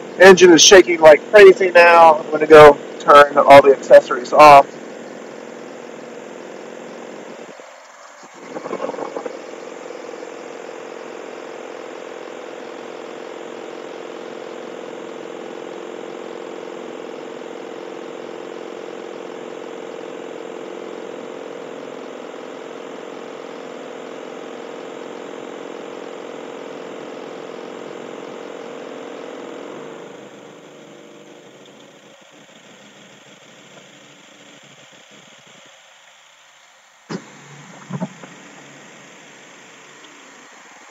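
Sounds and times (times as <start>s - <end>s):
car engine idling roughly: 0.0s - 40.9s.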